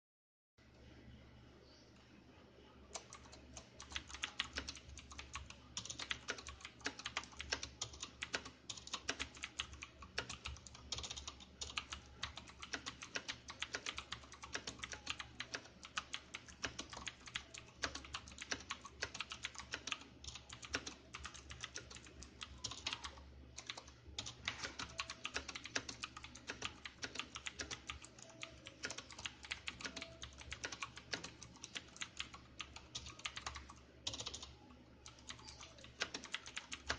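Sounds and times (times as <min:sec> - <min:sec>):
clicky mechanical keyboard typing: 0:02.9 - 0:36.9.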